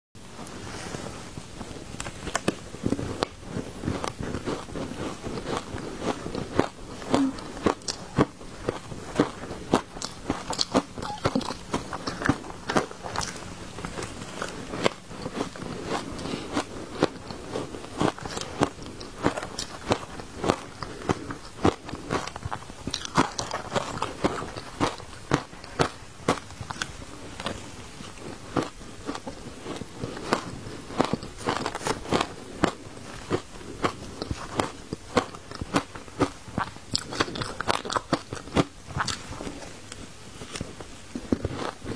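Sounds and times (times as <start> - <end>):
crushed ice being chewed: 0.4 - 41.9.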